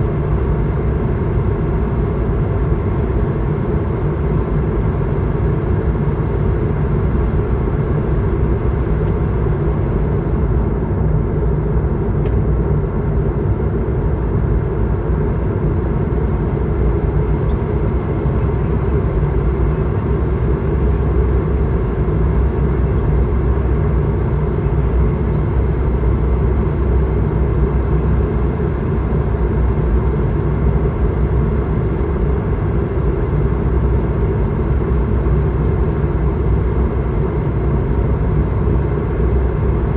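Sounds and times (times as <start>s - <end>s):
airliner cabin roar: 0.0s - 39.9s
faint high steady whine: 0.0s - 39.9s.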